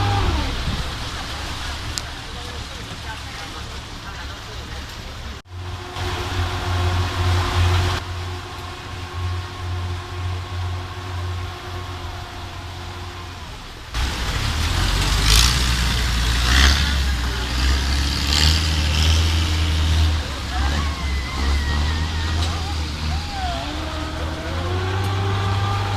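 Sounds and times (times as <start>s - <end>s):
engine humming: 0.0s - 25.9s.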